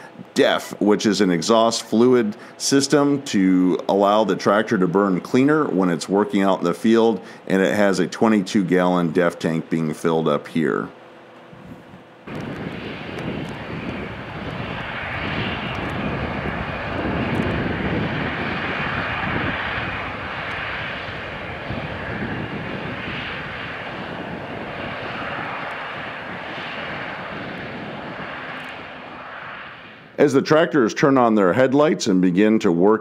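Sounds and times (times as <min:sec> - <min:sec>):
tractor diesel engines drone: 0:00.0 - 0:32.2.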